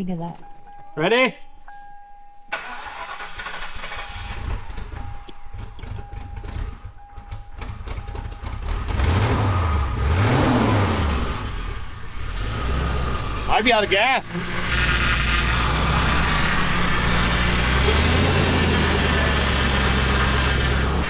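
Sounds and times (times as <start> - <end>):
car engine revving: 2.5 - 21.0.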